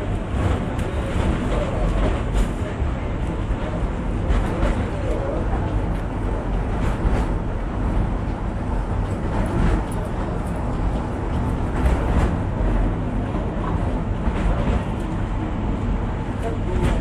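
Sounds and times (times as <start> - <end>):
train running on track: 0.0 - 17.0.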